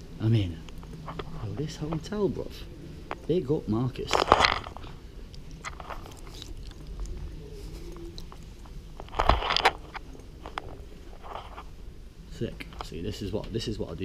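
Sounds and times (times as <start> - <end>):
camera rustling against clothing: 0.7 - 12.0.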